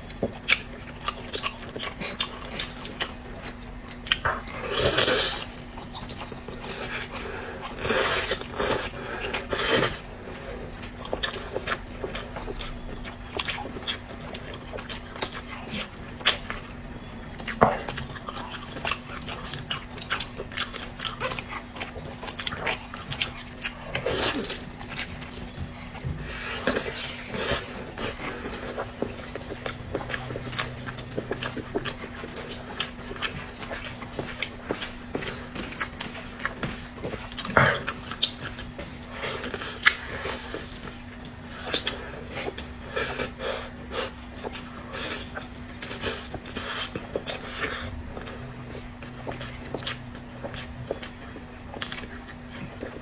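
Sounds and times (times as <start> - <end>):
low steady hum: 0.0 - 53.0
wet chewing and slurping: 0.0 - 53.0.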